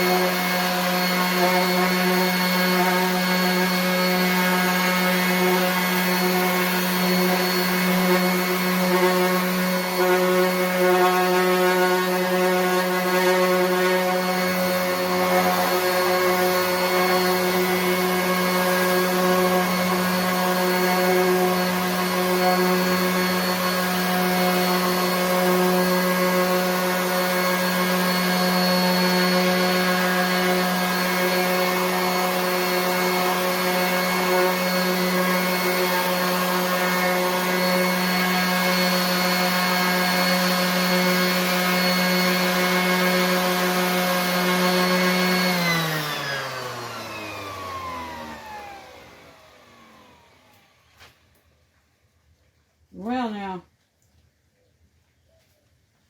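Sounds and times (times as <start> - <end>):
sanding pad hissing on wood: 0.0 - 48.6
orbit sander motor hum: 0.0 - 50.9.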